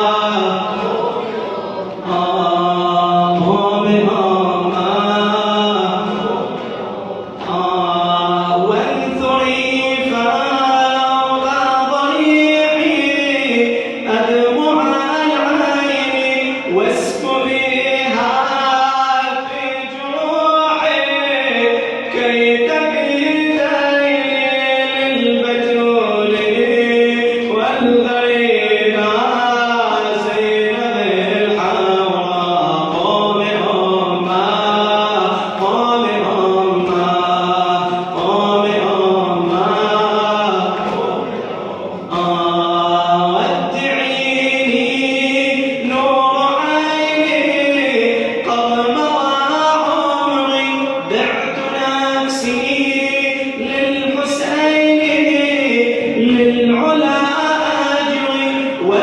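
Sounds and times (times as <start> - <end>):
men chanting a slow lament: 0.0 - 59.0.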